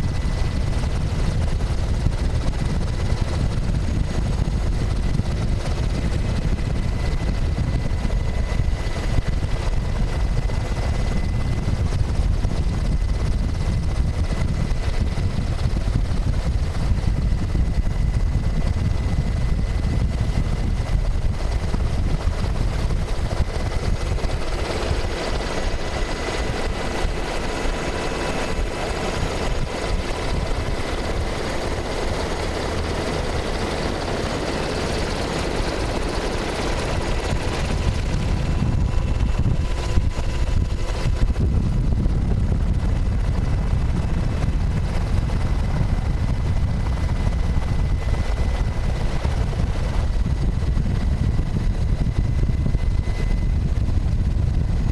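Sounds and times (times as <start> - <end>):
helicopter rotor drone: 0.0 - 54.9.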